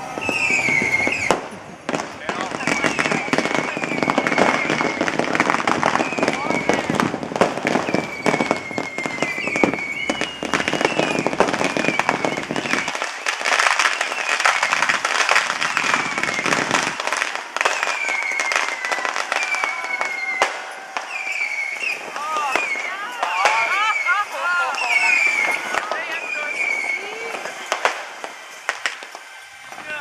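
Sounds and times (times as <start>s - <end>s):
firecrackers cracking and popping: 0.0s - 30.0s
firework whistles: 0.0s - 30.0s.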